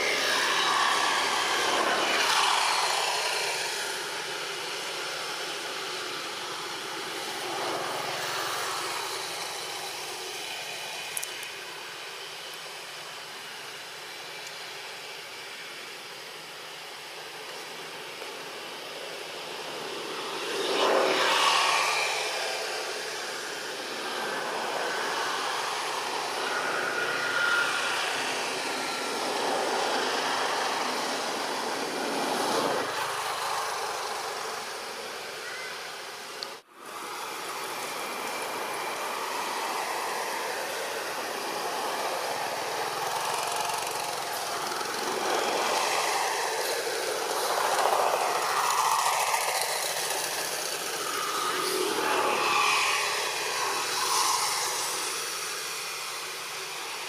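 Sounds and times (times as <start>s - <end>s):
road traffic passing: 0.0s - 14.7s, 16.4s - 57.0s.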